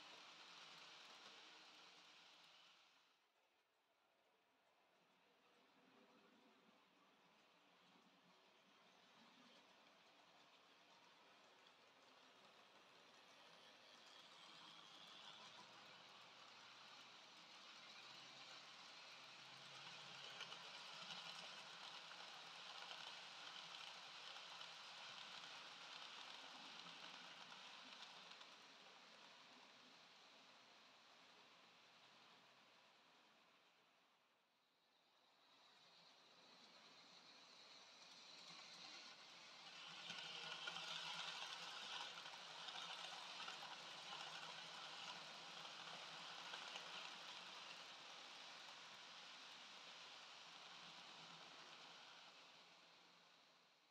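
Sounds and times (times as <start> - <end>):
model train running on rails: 0.0 - 53.9.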